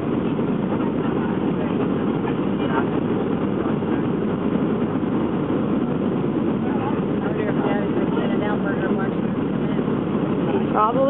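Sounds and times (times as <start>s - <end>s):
aircraft cabin engine rush: 0.0s - 11.0s.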